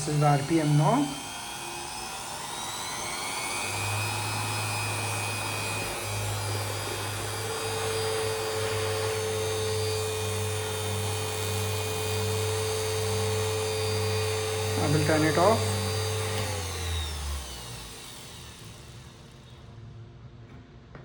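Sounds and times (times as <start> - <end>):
bench grinder motor whining: 0.0 - 19.6.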